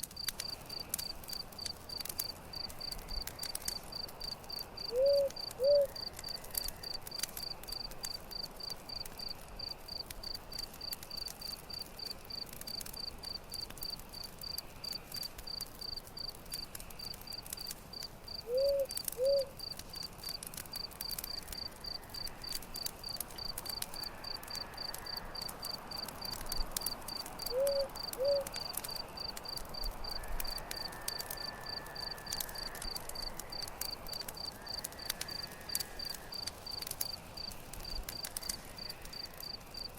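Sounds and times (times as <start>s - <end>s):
campfire crackling: 0.0s - 39.9s
cricket chirping: 0.2s - 39.9s.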